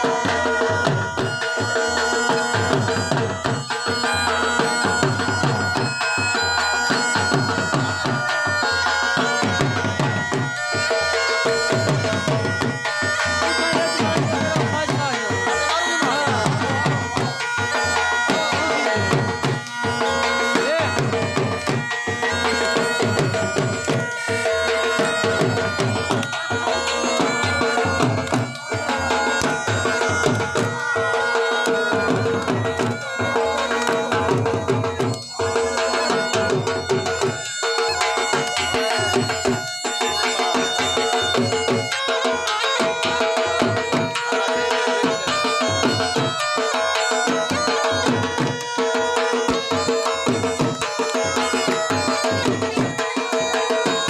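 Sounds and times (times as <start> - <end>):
drum beat: 0.0 - 54.0.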